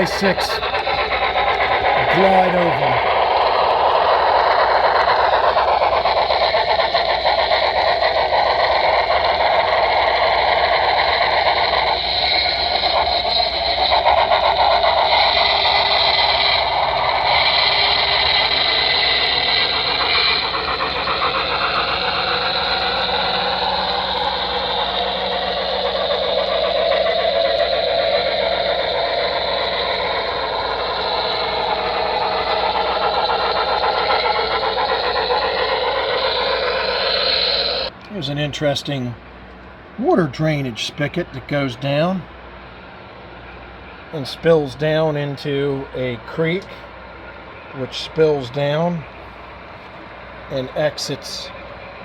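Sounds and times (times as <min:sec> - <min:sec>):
model train motor whirring: 0:00.0 - 0:52.0.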